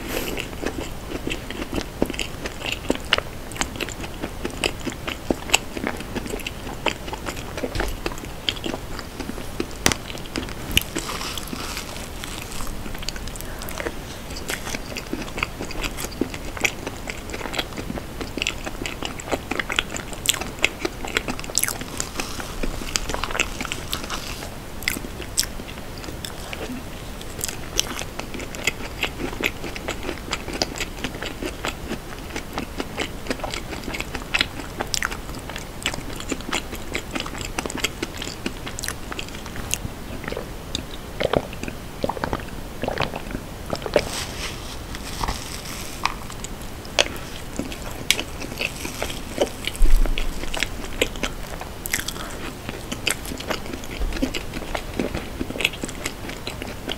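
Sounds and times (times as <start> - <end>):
chewing and wet mouth clicks: 0.3 - 44.1, 45.0 - 56.9.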